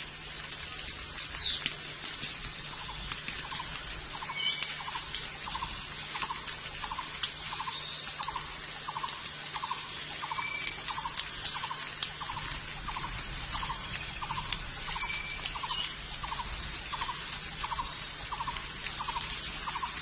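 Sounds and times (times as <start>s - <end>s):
steady high hiss: 0.0s - 20.0s
rhythmic pulsing call: 2.7s - 20.0s.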